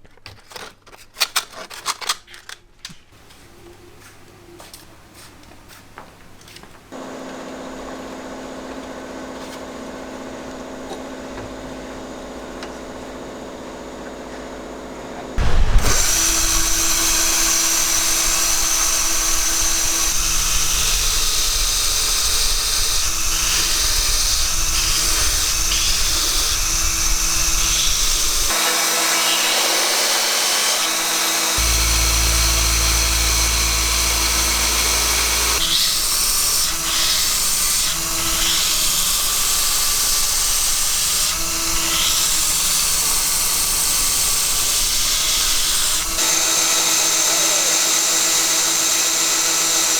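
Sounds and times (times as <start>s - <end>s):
power tool cutting metal: 7.0s - 49.9s.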